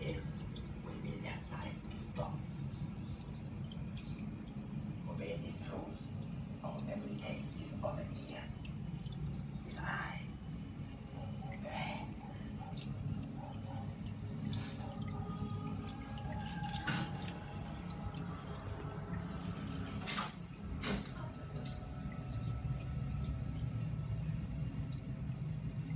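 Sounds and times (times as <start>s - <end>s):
aquarium filter humming: 0.0s - 25.9s
water trickling into tank: 0.0s - 25.9s.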